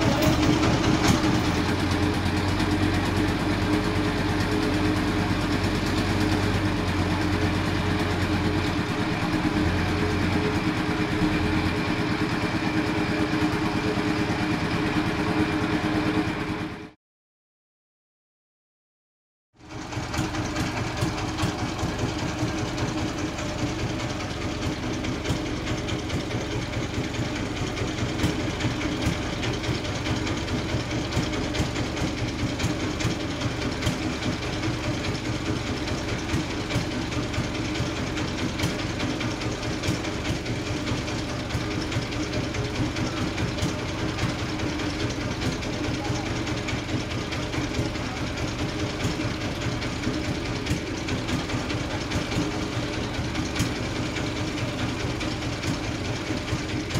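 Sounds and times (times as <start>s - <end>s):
sawmill engine pulsing: 0.0s - 17.0s, 19.6s - 56.9s.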